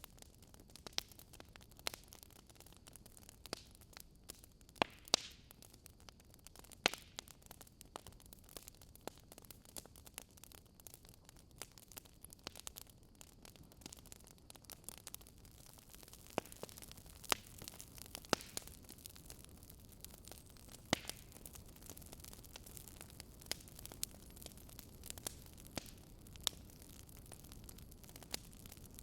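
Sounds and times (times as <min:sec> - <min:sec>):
fireplace fire crackling: 0:00.0 - 0:29.0.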